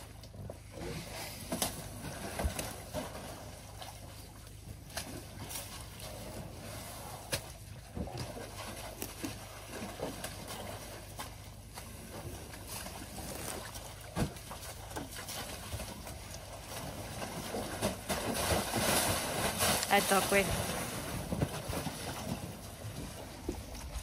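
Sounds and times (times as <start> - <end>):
mud sloshing and squelching: 0.0 - 24.0.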